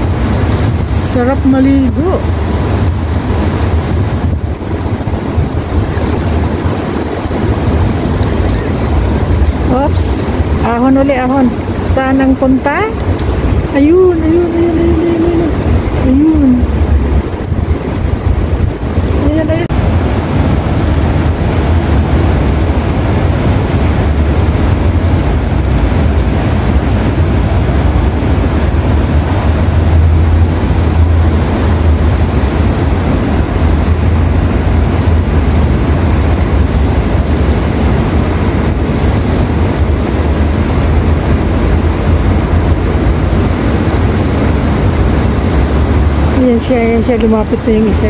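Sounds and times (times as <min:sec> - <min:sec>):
fountain water rushing: 0:00.0 - 0:48.0
wind rumble on microphone: 0:00.0 - 0:48.0.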